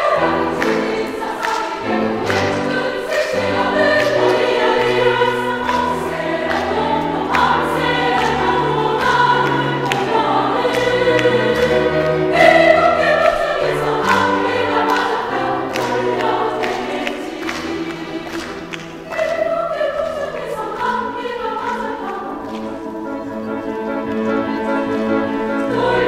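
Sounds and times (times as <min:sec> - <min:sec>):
piano accompaniment: 0:00.0 - 0:26.0
women's choir singing: 0:00.0 - 0:26.0.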